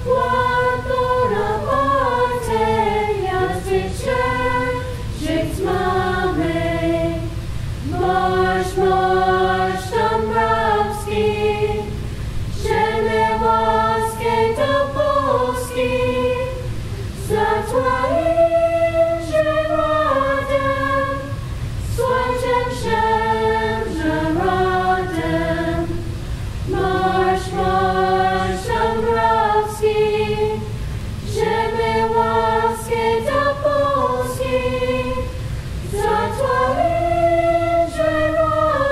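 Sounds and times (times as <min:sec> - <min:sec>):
a cappella choir singing: 0:00.0 - 0:38.9.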